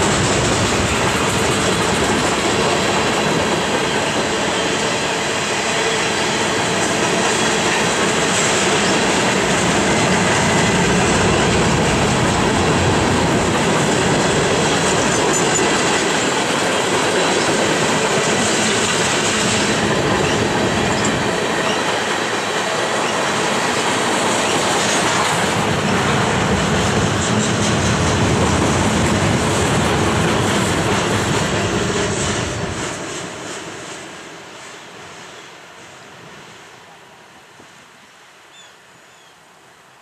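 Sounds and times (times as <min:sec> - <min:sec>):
train wheels rumbling on rails: 0:00.0 - 0:36.7.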